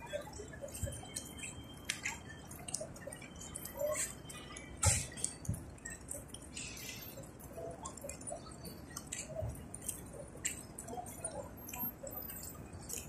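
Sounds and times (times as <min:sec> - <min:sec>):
pigeons clicking and fluttering: 0:00.0 - 0:13.0.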